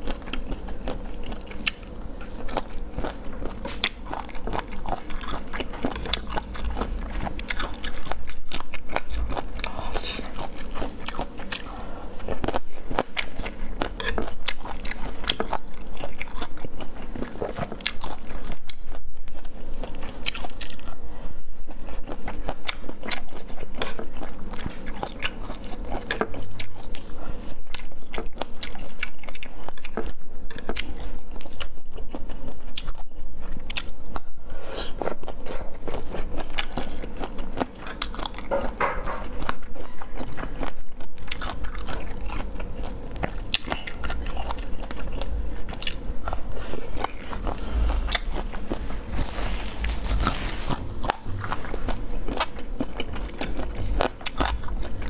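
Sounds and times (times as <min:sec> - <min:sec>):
person chewing and crunching: 0:00.0 - 0:55.0.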